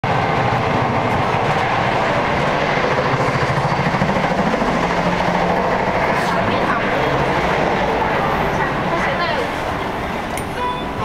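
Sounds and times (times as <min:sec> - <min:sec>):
train carriage running noise: 0:00.0 - 0:11.0.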